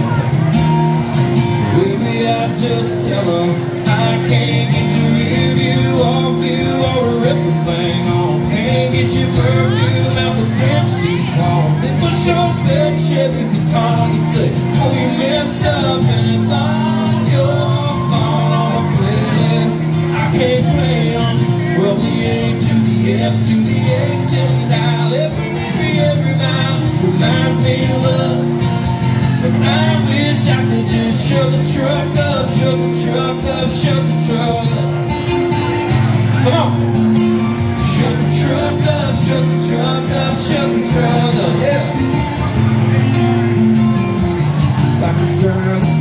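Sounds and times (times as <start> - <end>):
man singing country song: 0.0 - 46.0
strummed acoustic guitar: 0.0 - 46.0.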